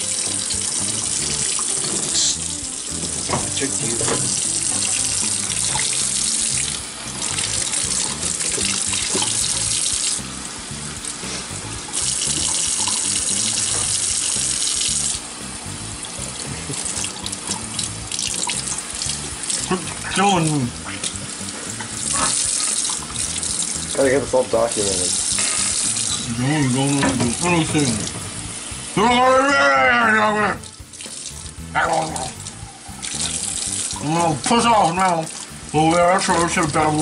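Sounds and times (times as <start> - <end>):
background music: 0.0 - 37.0
tap water running into sink: 0.0 - 37.0.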